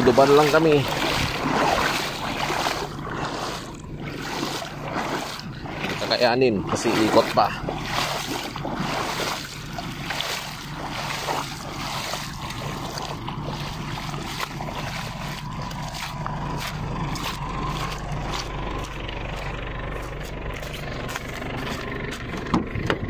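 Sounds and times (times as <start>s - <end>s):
river water rushing over stones: 0.0s - 18.9s
steady low rumble: 0.0s - 23.0s.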